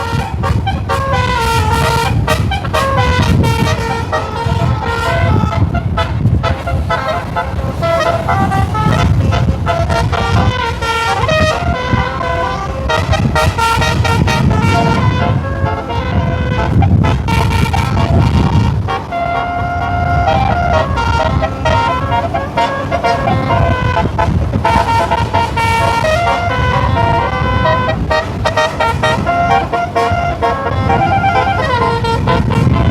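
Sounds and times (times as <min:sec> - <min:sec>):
bus engine and road noise: 0:00.0 - 0:32.9
musical bus horn melody: 0:00.0 - 0:32.9.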